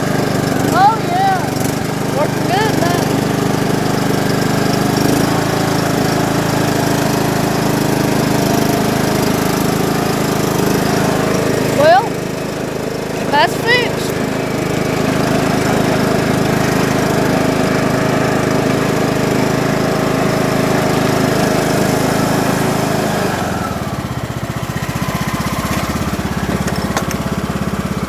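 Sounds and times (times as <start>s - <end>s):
riding mower engine running: 0.0s - 28.0s.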